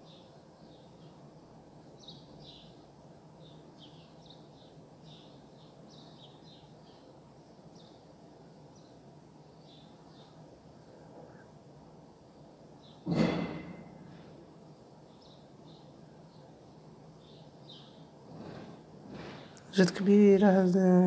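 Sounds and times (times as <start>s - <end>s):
small birds chirping: 0.0s - 20.8s.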